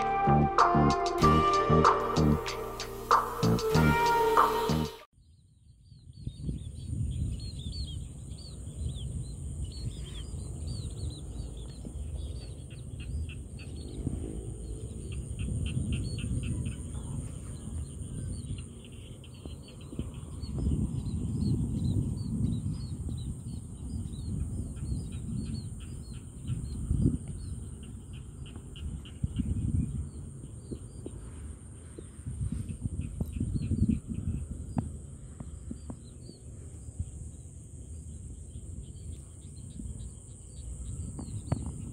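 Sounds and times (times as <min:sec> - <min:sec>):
small birds chirping: 0:04.8 - 0:41.9
wind rumble on microphone: 0:05.2 - 0:41.9.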